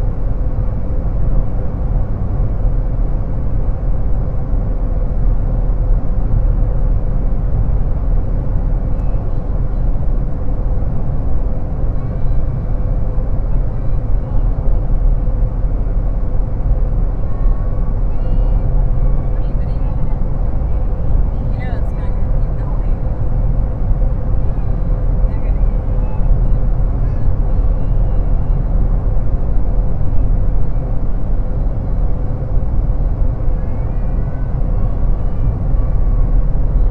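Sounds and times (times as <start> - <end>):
car and road noise rumble: 0.0 - 36.9
constant hum: 0.0 - 36.9.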